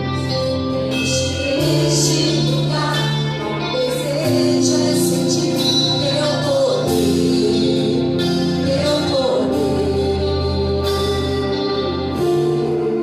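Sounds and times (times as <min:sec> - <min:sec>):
sustained instrumental chords: 0:00.0 - 0:13.0
worship singing: 0:00.0 - 0:13.0.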